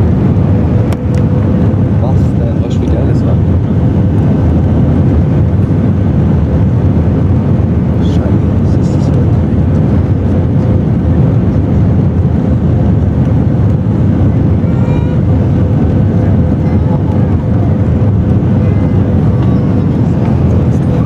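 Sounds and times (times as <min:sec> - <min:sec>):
jet engine and airflow rush: 0:00.0 - 0:21.0
thin steady hum: 0:00.0 - 0:21.0.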